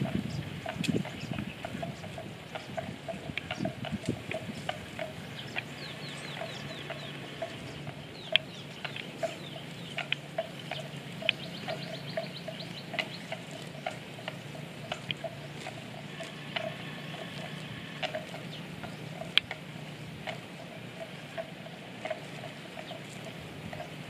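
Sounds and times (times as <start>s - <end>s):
birds chirping: 0.0s - 24.0s
steady low hum: 0.0s - 24.0s
sharp clicks: 0.6s - 24.0s.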